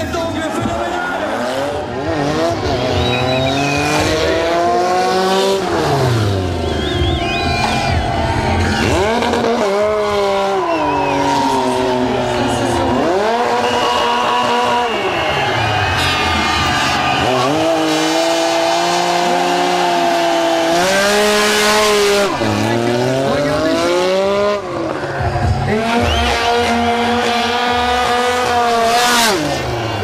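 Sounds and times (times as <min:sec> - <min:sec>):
motorcycle engine revving: 0:01.2 - 0:30.0.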